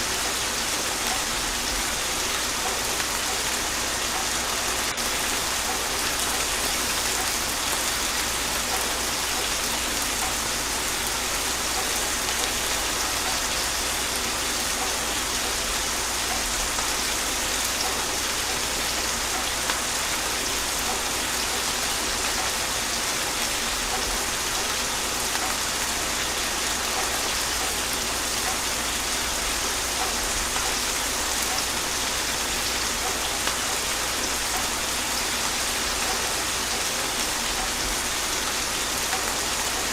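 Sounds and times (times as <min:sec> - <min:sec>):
gentle rain on a surface: 0:00.0 - 0:39.9.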